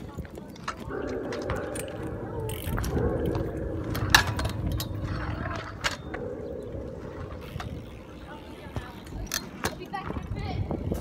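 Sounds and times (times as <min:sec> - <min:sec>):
scooter wheels rolling on tarmac: 0:00.0 - 0:11.0.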